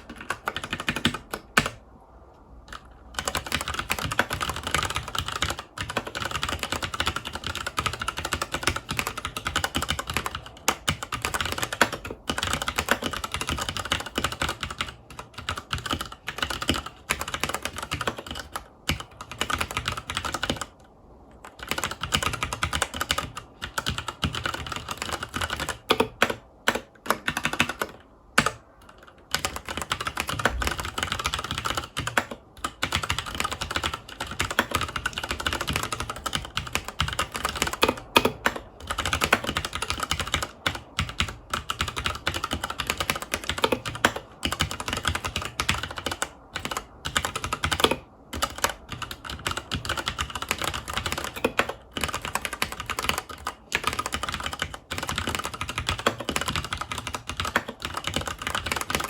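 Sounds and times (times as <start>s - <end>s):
fast typing on mechanical keyboard: 0.0s - 1.8s, 2.6s - 59.0s.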